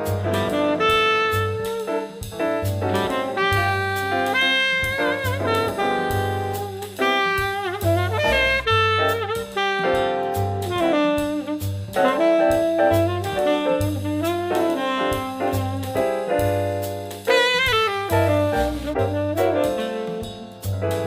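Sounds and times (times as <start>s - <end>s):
jazz music with saxophone: 0.0s - 21.0s.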